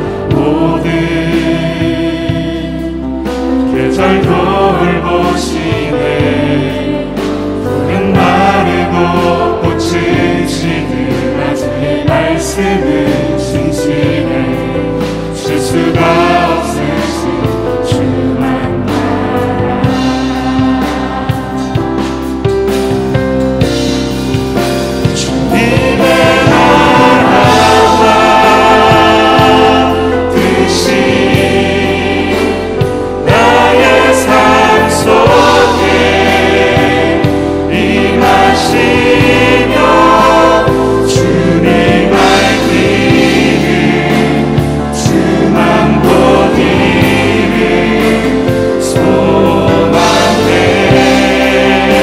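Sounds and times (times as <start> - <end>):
group singing worship song: 0.0 - 52.0
low bass: 0.0 - 52.0.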